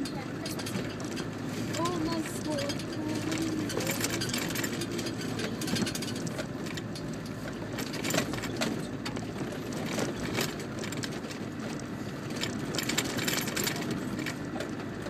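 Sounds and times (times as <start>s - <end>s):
engine running at low speed: 0.0s - 15.0s
vehicle knocks and rattles: 0.0s - 15.0s.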